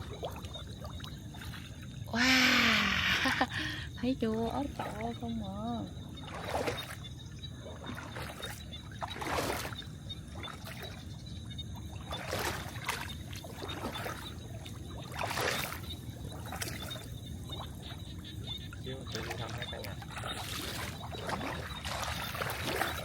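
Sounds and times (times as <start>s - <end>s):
water splashing and dripping: 0.0s - 23.0s.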